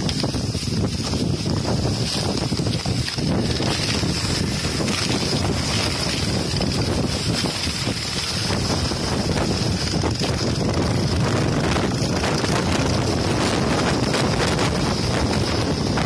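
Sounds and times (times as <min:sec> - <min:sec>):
snowmobile running: 0:00.0 - 0:16.0
wind buffeting microphone: 0:00.0 - 0:16.0.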